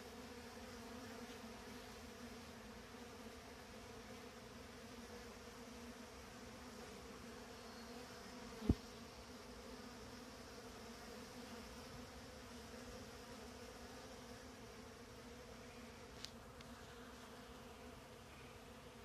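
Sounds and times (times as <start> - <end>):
bees humming: 0.0 - 19.0.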